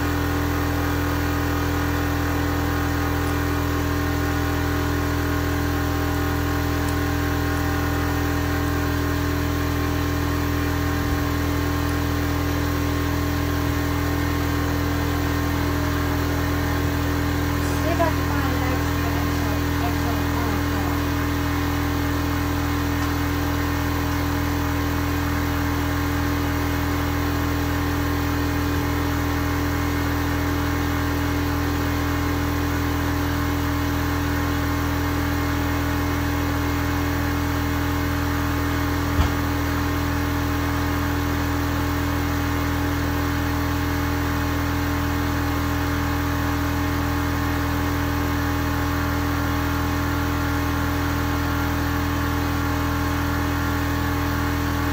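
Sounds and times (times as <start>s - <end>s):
machine running steadily: 0.0s - 54.9s.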